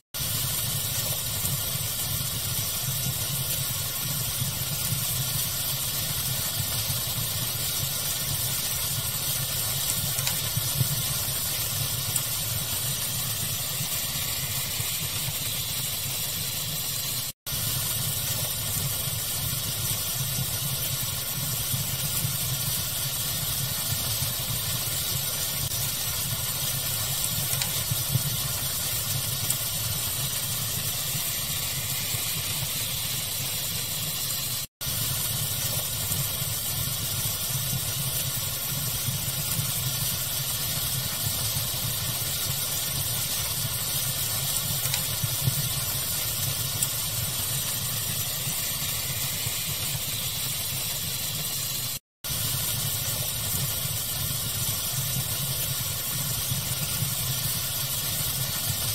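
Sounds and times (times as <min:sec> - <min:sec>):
fire crackling: 0:00.2 - 0:58.9
steady pink noise hiss: 0:00.2 - 0:58.9.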